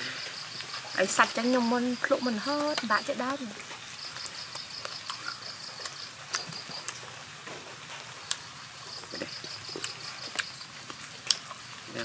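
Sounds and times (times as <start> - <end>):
insect trilling: 0.0 - 7.4, 8.1 - 12.0.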